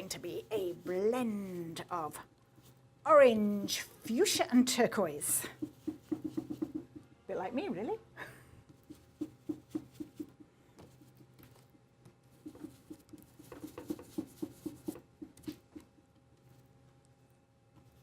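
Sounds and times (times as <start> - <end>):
stencil brush dabbing paint: 0.0 - 7.2, 8.6 - 18.0.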